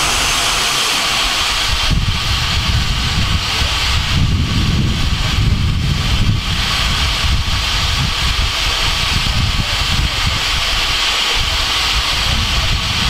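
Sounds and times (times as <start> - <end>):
steam hissing from locomotive: 0.0 - 13.0
wind rumbling on microphone: 0.0 - 13.0.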